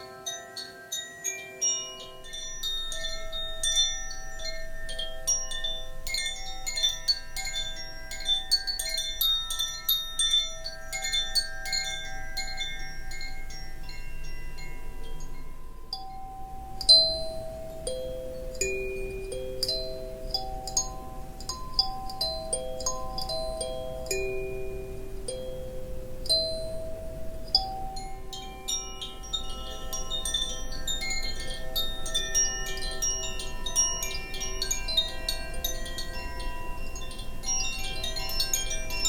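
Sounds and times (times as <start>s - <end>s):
wind chimes ringing: 0.0s - 39.0s.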